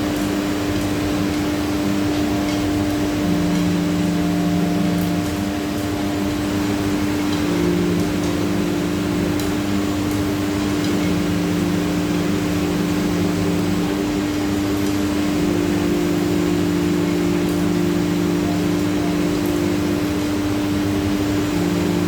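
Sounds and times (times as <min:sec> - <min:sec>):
axis drive motors low tone: 0:00.0 - 0:22.0.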